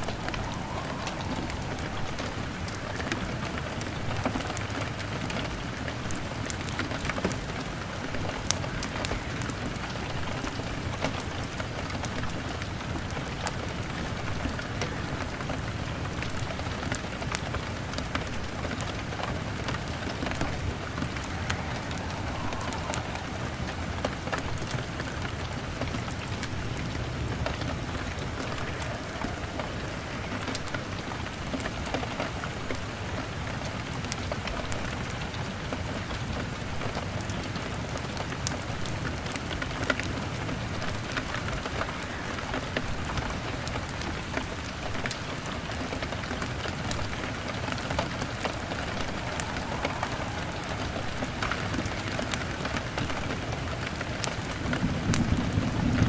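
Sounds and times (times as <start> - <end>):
fire crackling: 0.0 - 33.1, 38.6 - 56.0
rain pattering on a window: 0.0 - 56.0.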